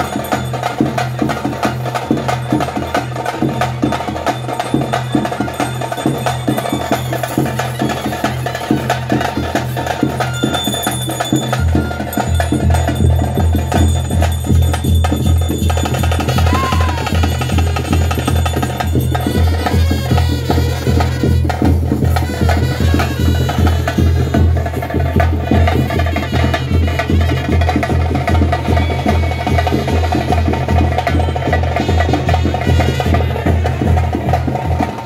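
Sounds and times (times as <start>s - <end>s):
deep drum beat: 0.0s - 35.0s
fast busy drumming: 0.0s - 35.0s.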